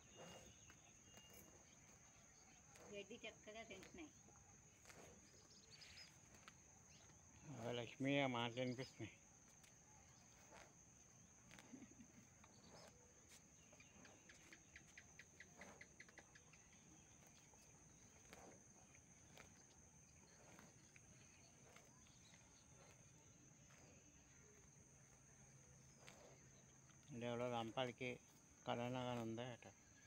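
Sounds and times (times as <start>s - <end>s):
cow cropping grass: 0.0s - 30.0s.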